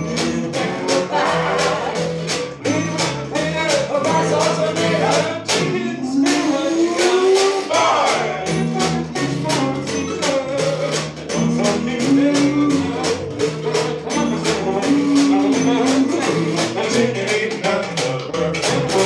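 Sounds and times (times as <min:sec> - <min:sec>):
scraped washboard beat: 0:00.0 - 0:19.0
swing band playing: 0:00.0 - 0:19.0
upright bass line: 0:00.0 - 0:19.0.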